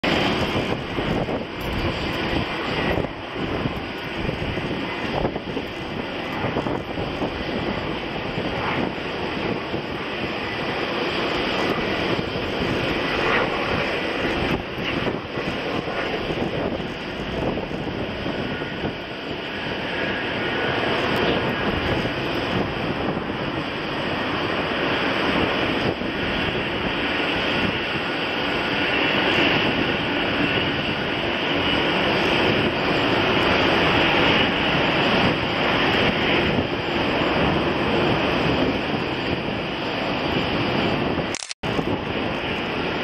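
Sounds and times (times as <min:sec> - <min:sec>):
jet engines whining: 0:00.0 - 0:43.0.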